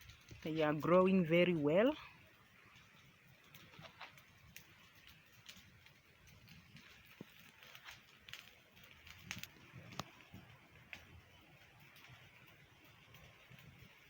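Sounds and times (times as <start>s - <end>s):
light clicks and crackles: 0.0s - 14.0s.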